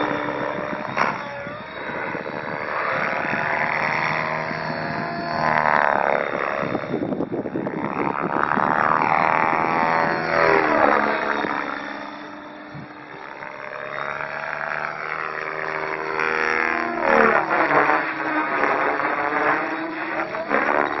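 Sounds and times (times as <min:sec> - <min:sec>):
model helicopter motor and rotor: 0:00.0 - 0:21.0.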